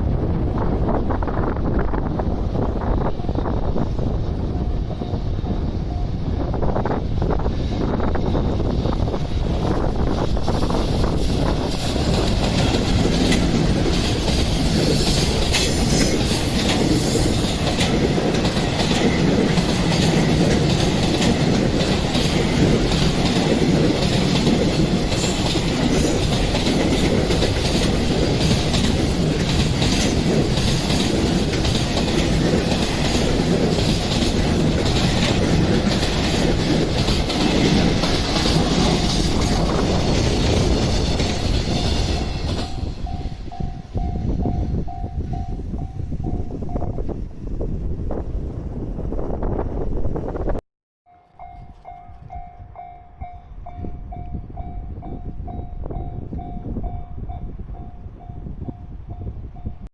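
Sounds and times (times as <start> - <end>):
train passing at speed: 0.0 - 50.6, 51.3 - 59.9.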